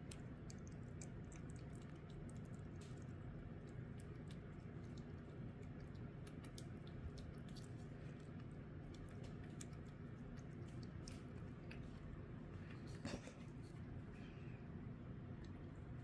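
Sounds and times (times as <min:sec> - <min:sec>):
cat licking: 0:00.0 - 0:14.4.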